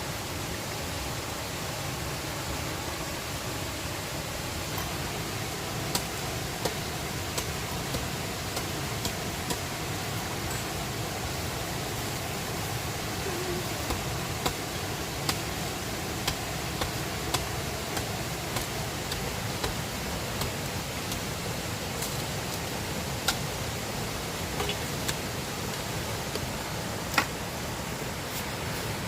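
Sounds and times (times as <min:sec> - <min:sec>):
river rushing: 0:00.0 - 0:29.0.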